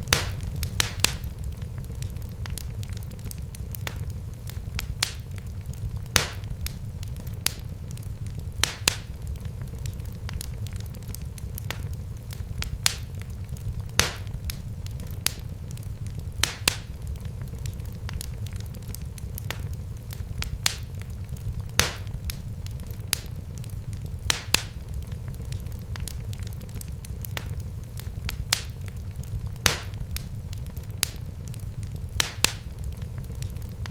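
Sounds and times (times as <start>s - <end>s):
fire crackling in a fireplace: 0.0s - 33.9s.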